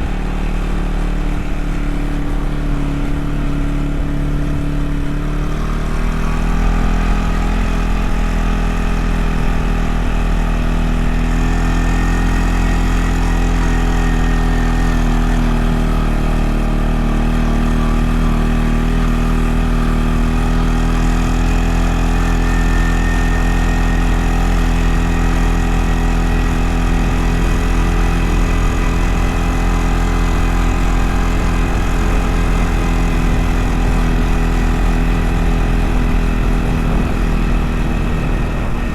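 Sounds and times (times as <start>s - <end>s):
small vehicle engine running: 0.0s - 38.9s.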